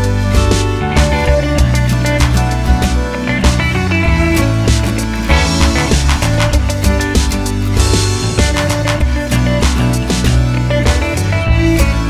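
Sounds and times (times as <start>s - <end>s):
guitar music with percussive beat: 0.0s - 12.0s.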